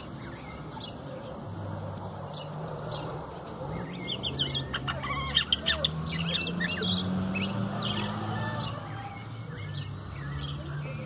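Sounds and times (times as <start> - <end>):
bird singing varied phrases: 0.0 - 1.4, 2.3 - 11.0.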